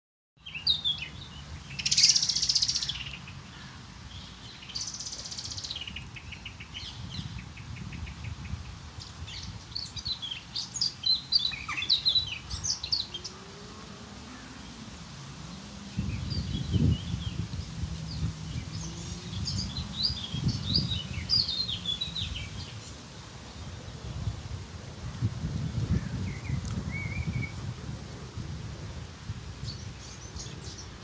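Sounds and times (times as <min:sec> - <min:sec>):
birds calling and singing: 0:00.4 - 0:23.9, 0:25.7 - 0:27.7, 0:29.6 - 0:31.0.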